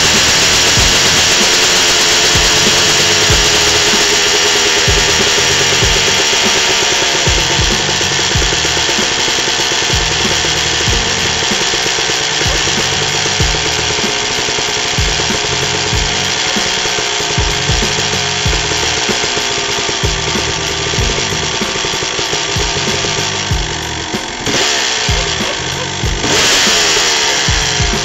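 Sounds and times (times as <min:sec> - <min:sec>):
two-stroke engine idling unevenly: 0:00.0 - 0:28.0.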